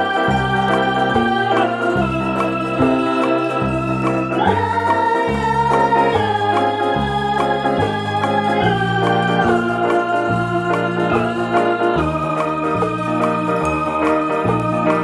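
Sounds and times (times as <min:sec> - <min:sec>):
bass line: 0:00.0 - 0:15.0
organ-like keyboard chords: 0:00.0 - 0:15.0.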